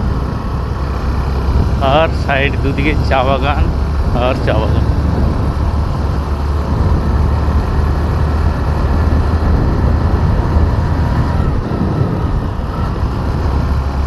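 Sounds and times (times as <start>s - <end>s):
motorcycle engine cruising: 0.0s - 14.0s
wind noise on microphone: 0.0s - 14.0s.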